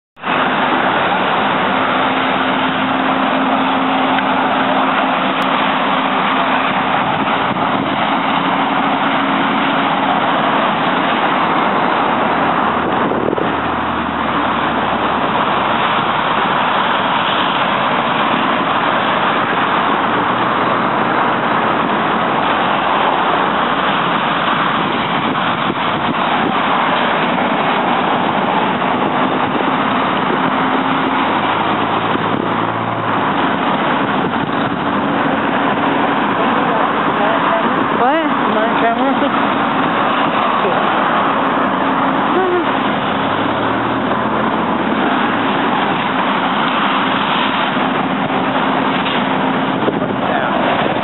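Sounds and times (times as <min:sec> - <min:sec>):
loud rushing noise: 0:00.2 - 0:51.0
vehicle engine humming: 0:00.2 - 0:51.0.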